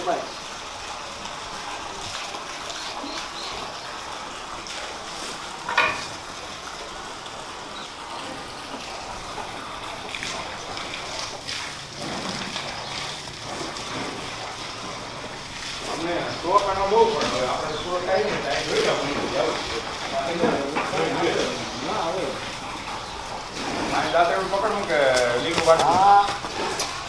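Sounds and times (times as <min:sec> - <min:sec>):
water running and splashing: 0:00.0 - 0:27.0.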